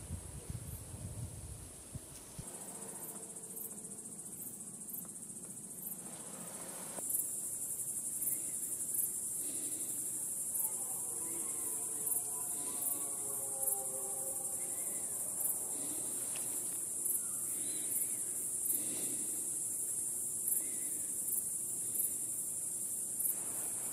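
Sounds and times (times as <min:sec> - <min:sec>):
crickets chirring: 0:01.8 - 0:23.9.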